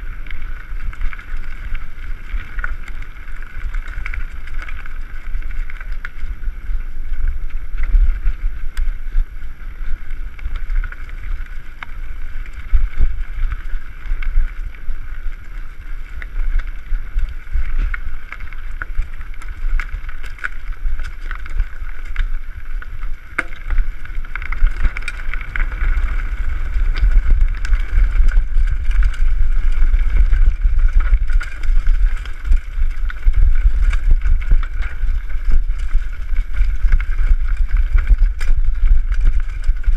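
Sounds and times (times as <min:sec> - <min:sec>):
wind buffeting microphone: 0:00.0 - 0:39.9
bike clattering over bumps: 0:07.6 - 0:39.9.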